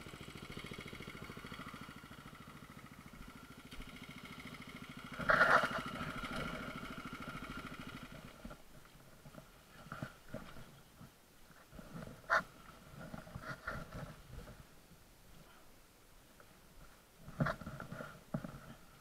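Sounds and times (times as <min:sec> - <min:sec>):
motorcycle engine running: 0:00.0 - 0:14.9, 0:17.2 - 0:19.0.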